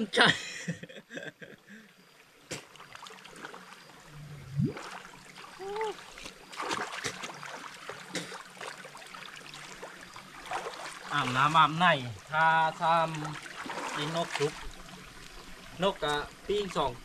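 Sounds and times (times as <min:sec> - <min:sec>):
water splashing and trickling: 0:01.7 - 0:17.0.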